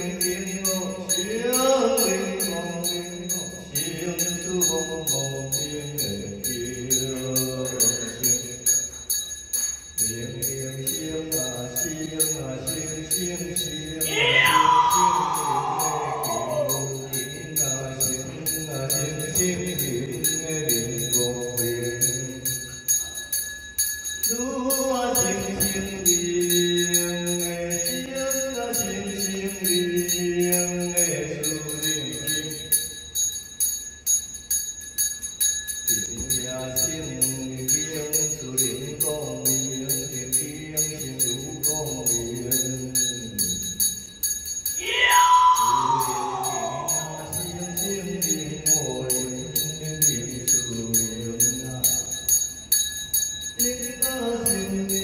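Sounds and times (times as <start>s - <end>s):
man chanting: 0.0s - 8.7s, 10.0s - 22.6s, 24.3s - 32.9s, 35.9s - 43.8s, 44.8s - 52.2s, 53.6s - 55.0s
brass hand bell shaken: 0.0s - 55.0s.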